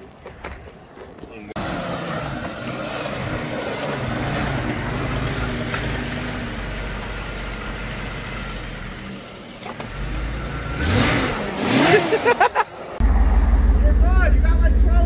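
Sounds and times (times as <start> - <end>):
car engine idling: 1.5 - 15.0.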